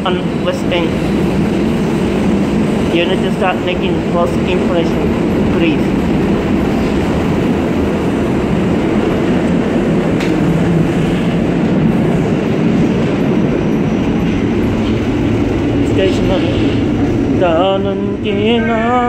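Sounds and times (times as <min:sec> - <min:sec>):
subway wheels rumbling on rail: 0:00.0 - 0:19.0.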